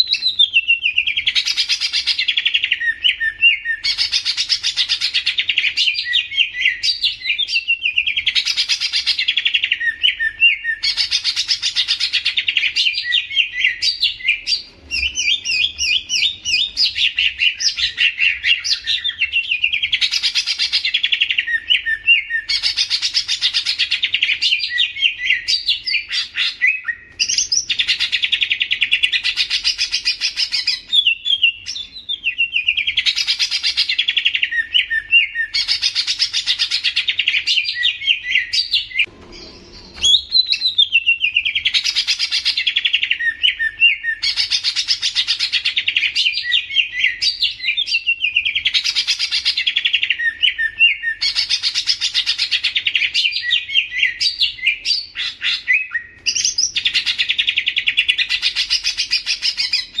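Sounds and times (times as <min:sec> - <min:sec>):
bird singing chattering song: 0:00.0 - 1:00.0.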